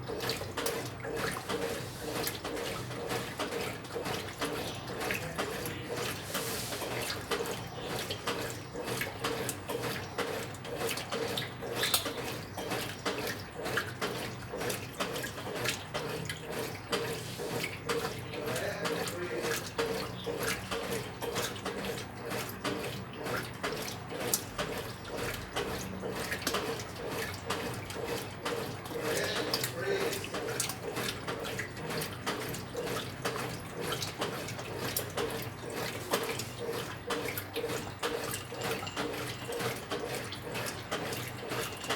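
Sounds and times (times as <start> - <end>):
washing machine water churning: 0.0 - 41.9.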